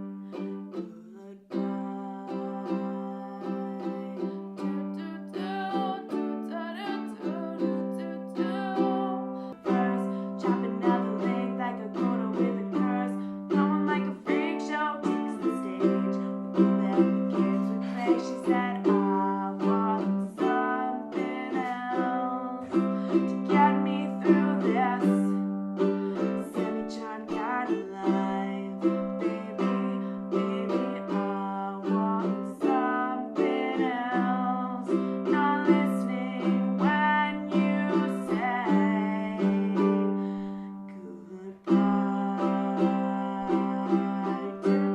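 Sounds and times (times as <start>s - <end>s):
plucked string instrument: 0.0s - 44.9s.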